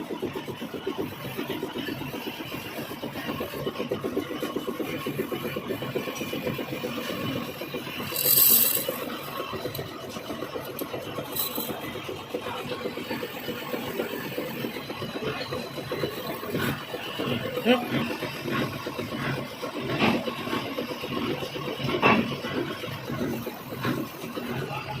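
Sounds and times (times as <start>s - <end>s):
metal lathe running: 0.1s - 25.0s.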